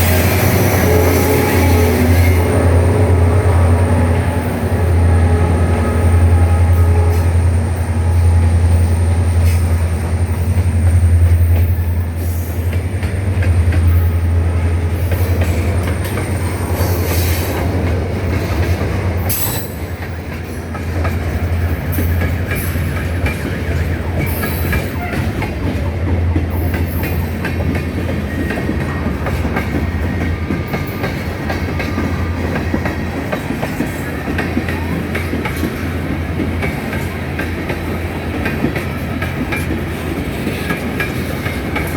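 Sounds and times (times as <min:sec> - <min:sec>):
locomotive engine drone: 0:00.0 - 0:41.9
train wheels clicking on rail joints: 0:00.0 - 0:41.9.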